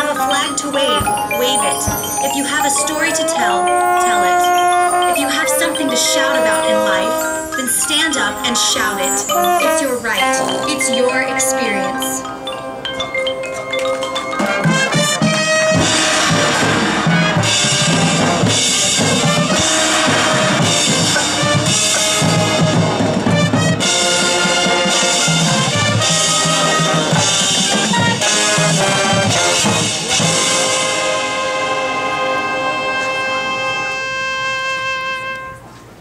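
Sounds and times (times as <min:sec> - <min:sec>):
mallet percussion: 0:00.0 - 0:34.0
marching band playing: 0:00.0 - 0:36.0.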